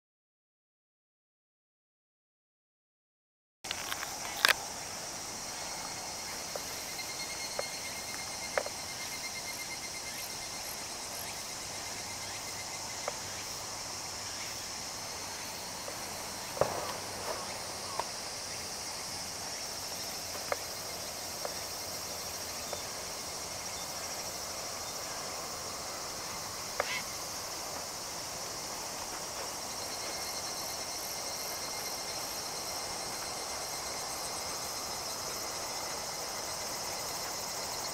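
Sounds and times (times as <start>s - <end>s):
insects chirring: 3.7s - 37.9s.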